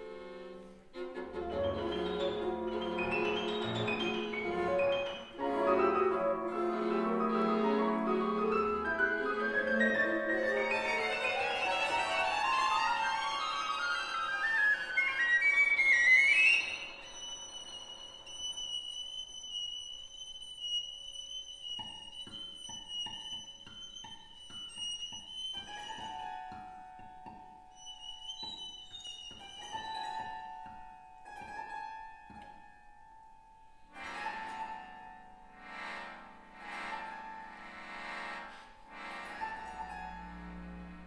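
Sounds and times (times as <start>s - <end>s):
contemporary chamber music: 0.0s - 41.0s.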